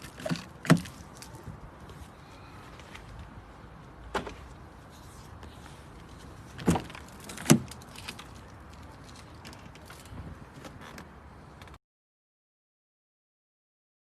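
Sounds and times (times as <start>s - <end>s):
faint steady background noise: 0.0s - 11.8s.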